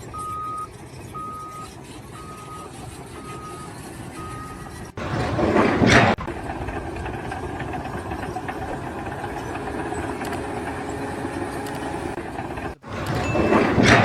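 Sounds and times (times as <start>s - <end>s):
machine engine droning: 0.0s - 14.0s.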